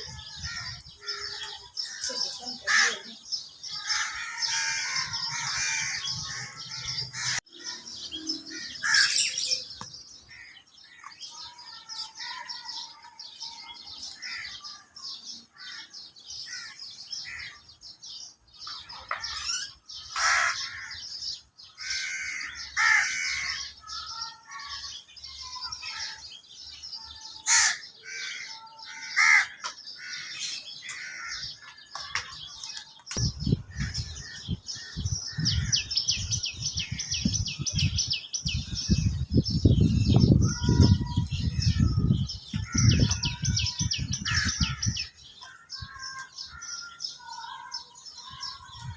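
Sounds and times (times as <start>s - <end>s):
mynas and crows calling: 0.0s - 48.9s.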